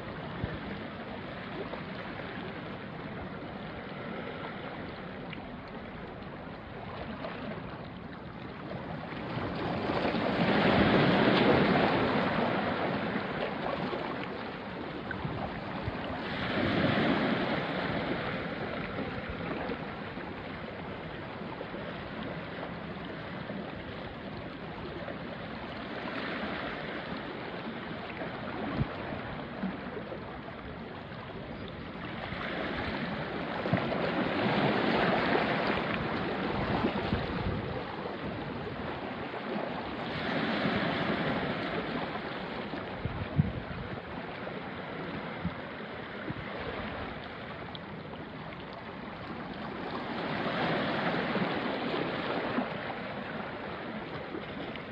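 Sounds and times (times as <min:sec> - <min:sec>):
waves washing onto rocky shore: 0:00.0 - 0:54.9.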